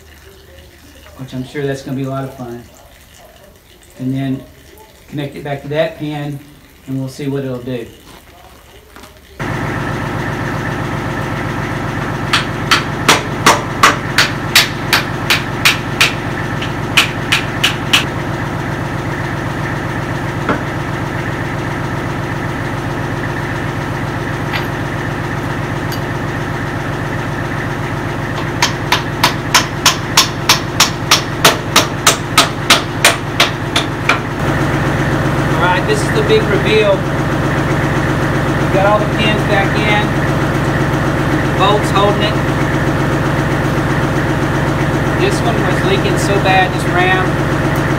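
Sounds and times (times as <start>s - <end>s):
tractor diesel engine idling: 9.4s - 47.9s.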